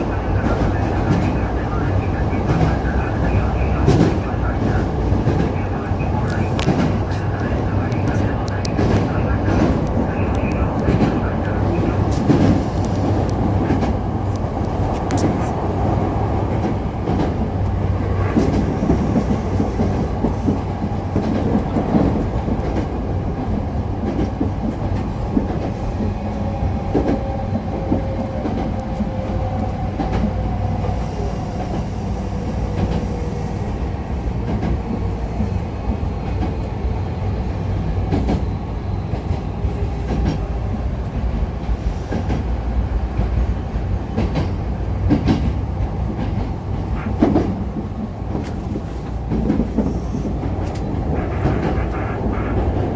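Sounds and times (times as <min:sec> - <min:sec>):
electric train rumbling: 0:00.0 - 0:52.9.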